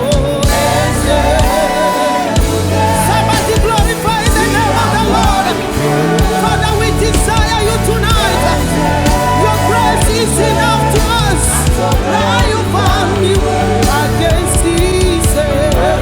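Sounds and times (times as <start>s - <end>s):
gospel band with bass line: 0.0s - 16.0s
person singing with vibrato: 0.0s - 16.0s.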